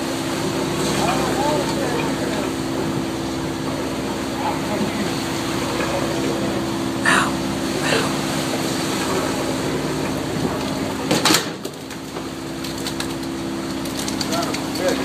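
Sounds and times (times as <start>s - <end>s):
boat engine running: 0.0s - 15.0s
water noise: 0.0s - 15.0s
wind: 0.0s - 15.0s.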